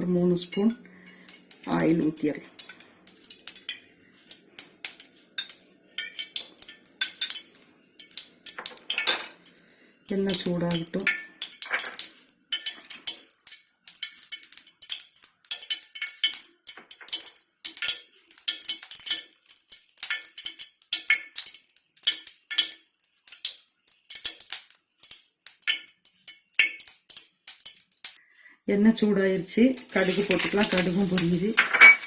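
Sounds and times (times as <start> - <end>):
hot oil crackling in a pan: 0.0 - 28.2, 29.6 - 32.0.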